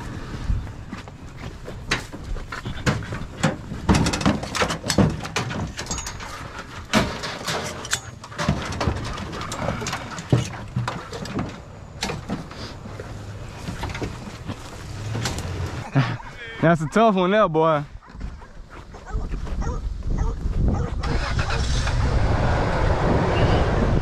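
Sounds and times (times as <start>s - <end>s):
rustling and scuffling: 0.0s - 21.0s.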